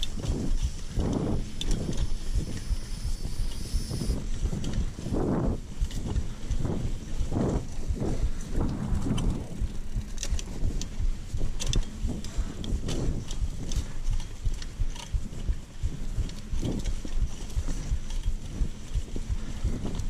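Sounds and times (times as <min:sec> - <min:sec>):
bike frame and chain rattling: 0:00.0 - 0:20.0
bike tyres thudding on trail: 0:00.0 - 0:20.0
steady low rumble: 0:00.0 - 0:20.0.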